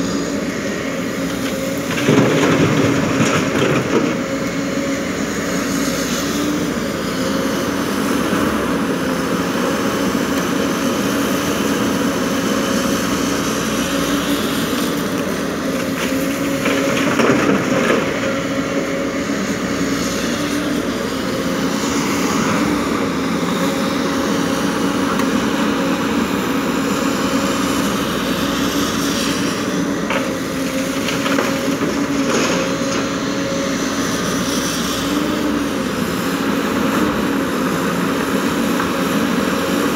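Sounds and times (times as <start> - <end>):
excavator diesel engine and hydraulics: 0.0 - 39.9.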